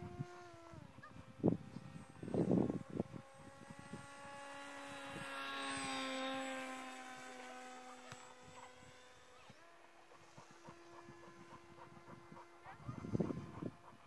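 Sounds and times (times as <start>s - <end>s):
model plane motor whining: 0.0s - 14.0s.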